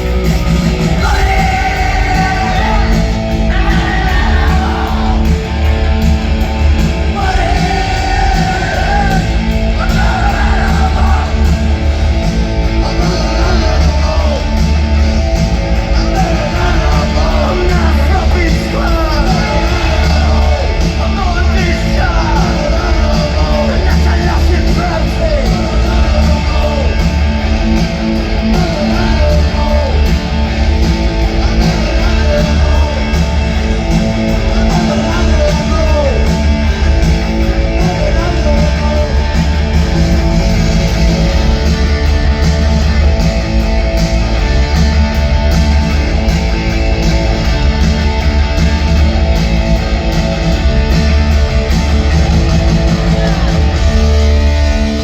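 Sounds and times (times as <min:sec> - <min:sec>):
punk rock band playing: 0:00.0 - 0:55.0.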